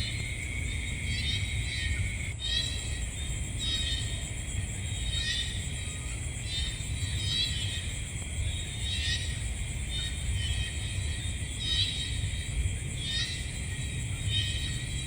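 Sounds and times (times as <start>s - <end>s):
constant low rumble: 0.0s - 15.0s
high insect drone: 0.0s - 15.0s.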